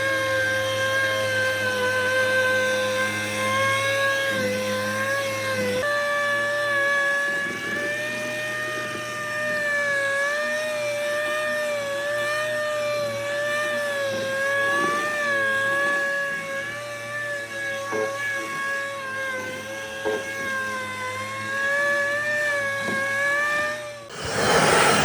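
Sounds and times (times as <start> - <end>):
small motor high whine: 0.0 - 25.0.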